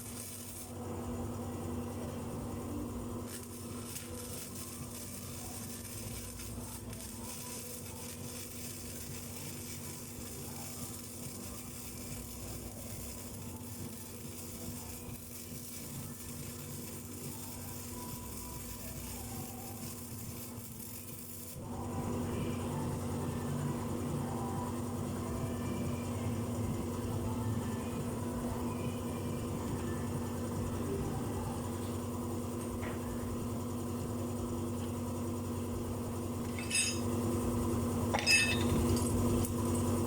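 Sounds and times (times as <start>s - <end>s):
welding arc crackling: 0.0s - 22.9s, 28.1s - 40.0s
steady low hum: 0.0s - 40.0s.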